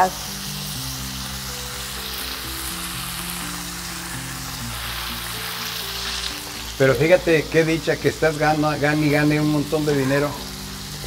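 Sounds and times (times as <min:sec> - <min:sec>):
cutlets sizzling in oil: 0:00.0 - 0:11.0
soft background music: 0:00.0 - 0:11.0.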